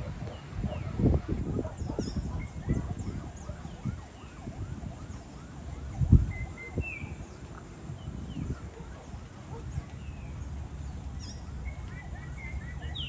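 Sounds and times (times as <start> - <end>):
small birds chirping: 0.0 - 13.0
wind gusting against microphone: 0.0 - 13.0.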